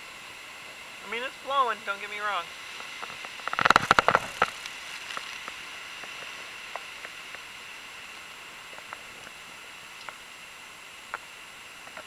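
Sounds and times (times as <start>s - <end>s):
heavy wind-driven rain: 0.0s - 12.0s.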